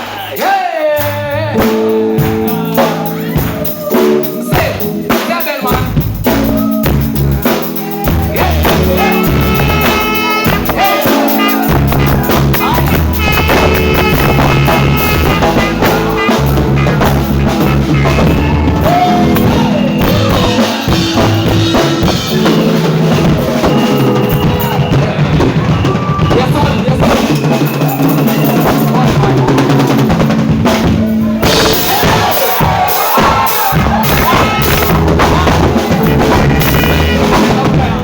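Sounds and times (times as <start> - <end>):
live band playing instrumental: 0.0 - 38.0
bass drum and snare hits: 4.6 - 27.6, 28.3 - 38.0.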